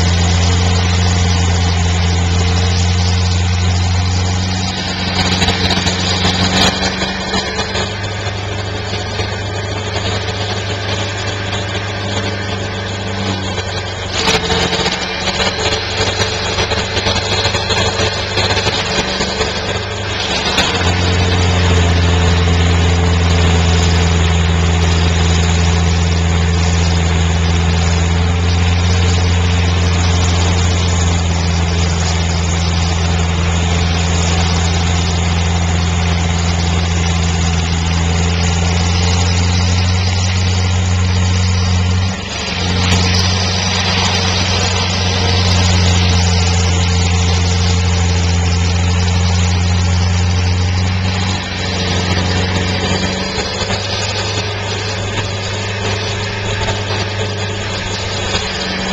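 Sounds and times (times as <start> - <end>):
cutter wheel grinding stump: 0.0 - 58.9
stump grinder engine running: 0.0 - 58.9.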